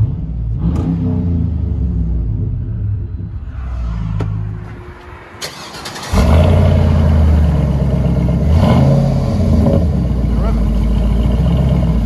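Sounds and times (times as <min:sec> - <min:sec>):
deep exhaust rumble: 0:00.0 - 0:12.0.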